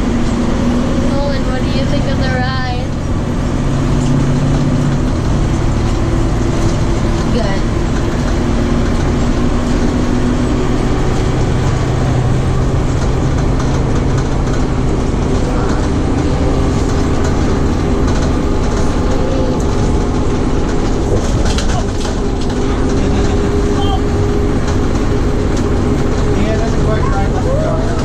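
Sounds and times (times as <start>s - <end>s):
fire truck engine drone: 0.0s - 28.0s
road noise: 0.0s - 28.0s
rattles: 0.2s - 28.0s.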